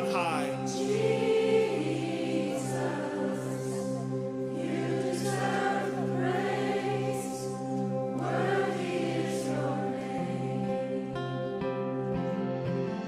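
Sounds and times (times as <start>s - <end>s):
congregation singing: 0.0s - 13.0s
sustained keyboard chords: 0.0s - 13.0s.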